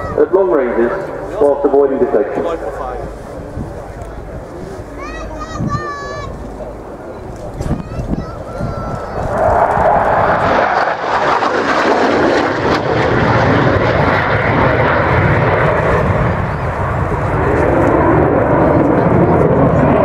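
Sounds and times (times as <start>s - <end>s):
fighter jet flying past: 0.0s - 5.0s, 6.1s - 20.0s.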